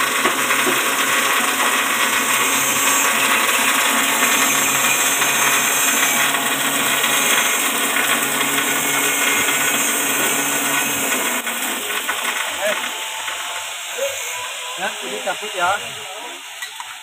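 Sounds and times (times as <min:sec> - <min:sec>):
chopper-grinder whirring drone: 0:00.0 - 0:16.6.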